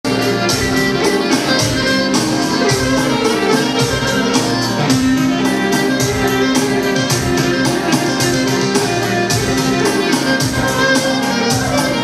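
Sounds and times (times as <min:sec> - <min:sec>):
folk dance music: 0:00.0 - 0:12.0.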